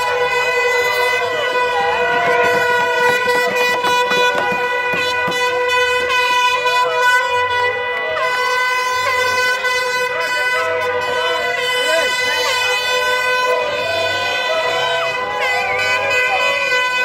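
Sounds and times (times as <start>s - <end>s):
crowd whistling: 0.0s - 9.3s, 10.6s - 17.0s
horn blast: 0.0s - 17.0s.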